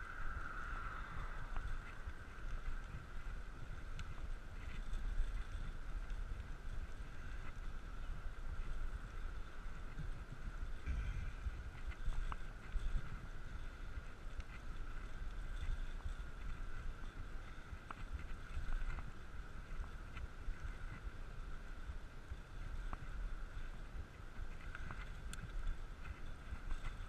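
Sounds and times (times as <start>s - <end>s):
bicycle clicks and rattles: 0.0s - 27.0s
wind rumbling on microphone: 0.0s - 27.0s.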